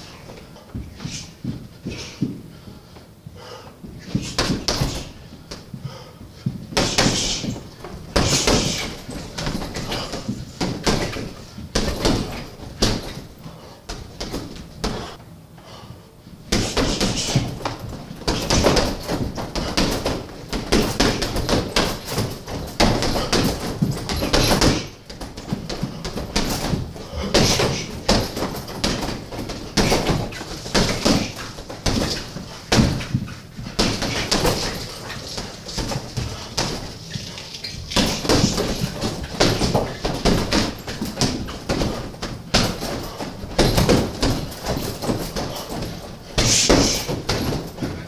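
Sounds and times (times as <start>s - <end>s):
punches thudding on heavy bag: 4.0s - 5.7s, 6.5s - 15.2s, 16.5s - 37.0s, 37.8s - 48.0s.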